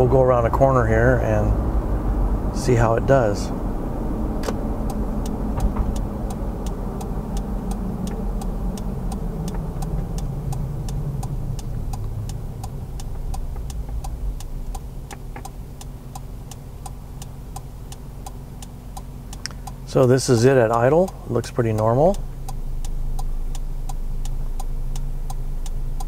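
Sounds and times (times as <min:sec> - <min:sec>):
truck engine slowing to idle: 0:00.0 - 0:26.0
turn-signal relay ticking: 0:04.4 - 0:26.0.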